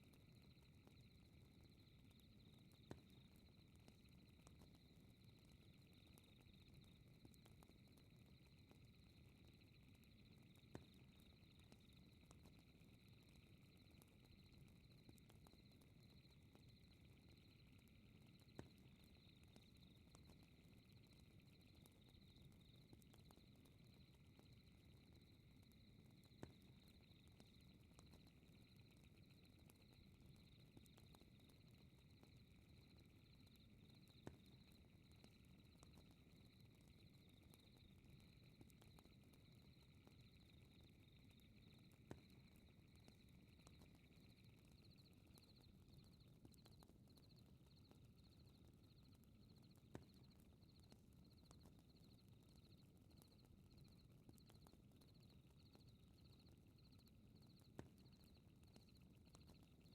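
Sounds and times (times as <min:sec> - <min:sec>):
fire crackling pops: 0:00.3 - 0:55.9.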